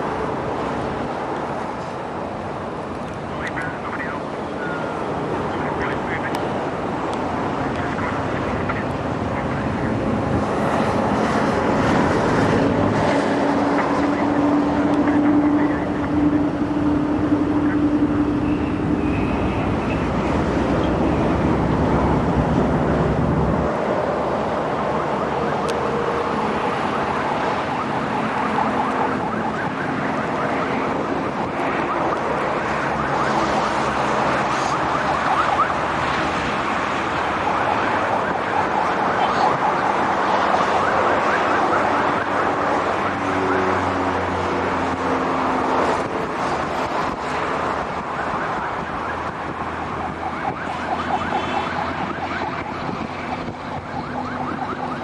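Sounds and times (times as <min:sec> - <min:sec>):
highway traffic passing: 0:00.0 - 0:55.0.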